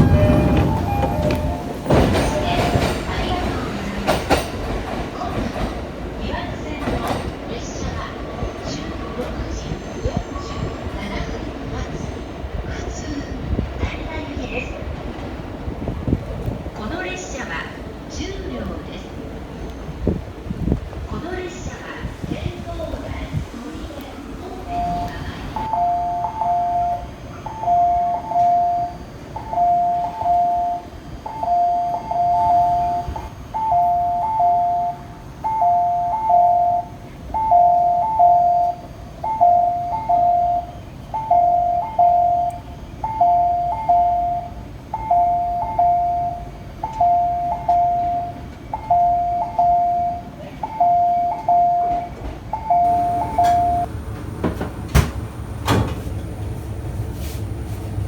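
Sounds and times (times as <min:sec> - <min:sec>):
low rumble of station noise: 0:00.0 - 0:58.0.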